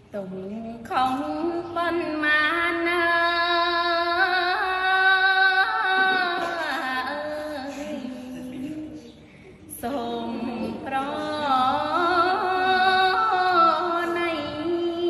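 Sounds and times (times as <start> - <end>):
woman chanting: 0.0 - 15.0.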